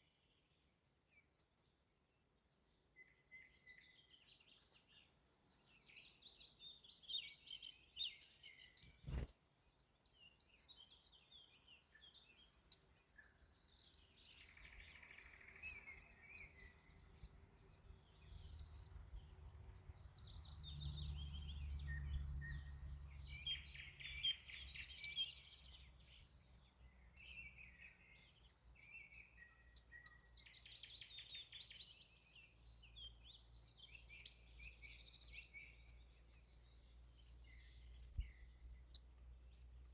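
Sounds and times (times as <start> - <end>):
faint songbirds trilling: 0.0 - 39.9.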